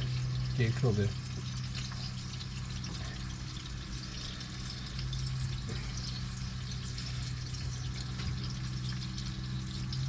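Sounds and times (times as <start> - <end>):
low steady hum: 0.0 - 10.0
sausage sizzling in a frying pan: 0.0 - 10.0.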